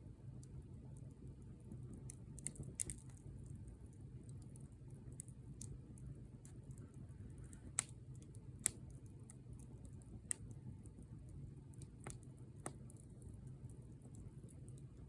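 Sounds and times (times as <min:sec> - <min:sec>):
bonfire crackling: 0:00.0 - 0:15.0
low fire rumble: 0:00.0 - 0:15.0
sharp fire snaps: 0:00.0 - 0:15.0.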